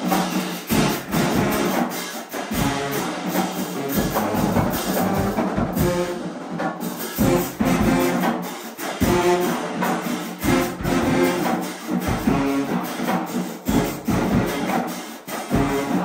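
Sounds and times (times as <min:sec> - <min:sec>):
marching band brass playing: 0:00.0 - 0:16.0
percussion hits: 0:00.0 - 0:16.0.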